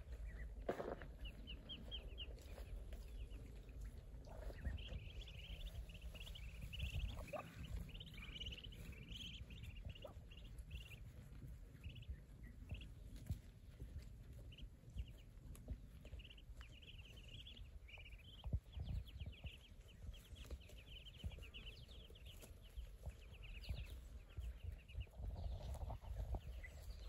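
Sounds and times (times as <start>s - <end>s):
ducklings peeping: 0.0s - 27.0s
low rumble: 0.0s - 27.0s.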